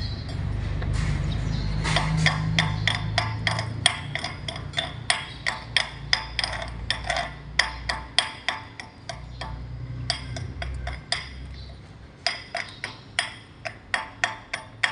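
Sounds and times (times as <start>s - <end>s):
hammer striking steel: 0.0s - 14.9s.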